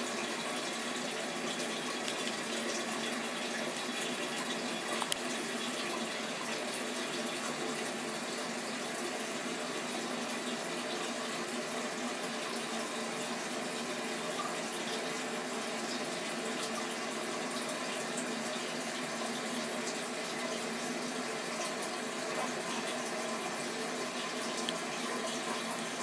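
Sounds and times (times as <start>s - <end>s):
liquid trickling into toilet water: 0.0s - 26.0s.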